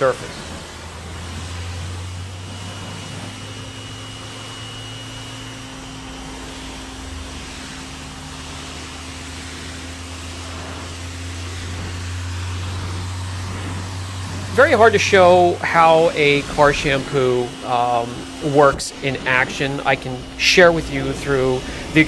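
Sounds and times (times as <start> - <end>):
pressure washer motor hum: 0.0 - 22.0
water jet hissing: 0.0 - 22.0.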